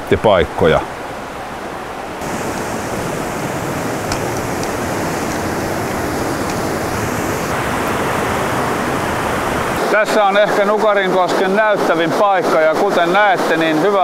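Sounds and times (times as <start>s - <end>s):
river rapids rushing: 2.1s - 14.0s.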